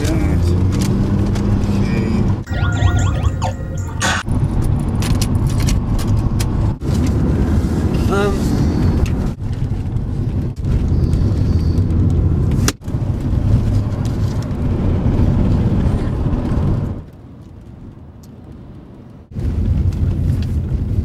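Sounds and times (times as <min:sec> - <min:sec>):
car cabin road and engine noise: 0:00.0 - 0:02.5, 0:04.2 - 0:21.0.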